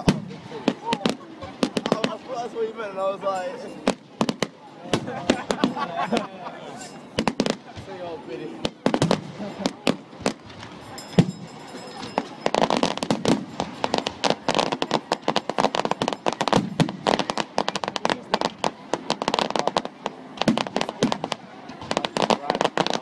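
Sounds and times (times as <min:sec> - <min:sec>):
fireworks crackling bangs: 0:00.0 - 0:23.0.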